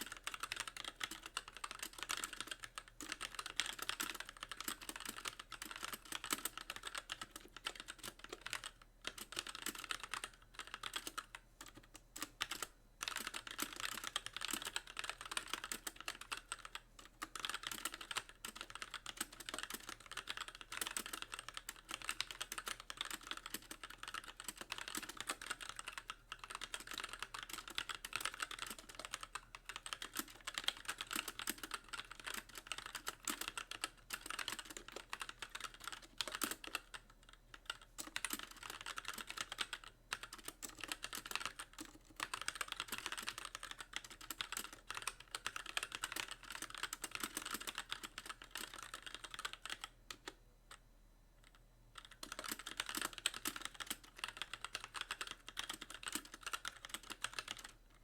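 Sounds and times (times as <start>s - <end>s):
mechanical keyboard clacking: 0.0s - 50.4s, 51.4s - 57.8s.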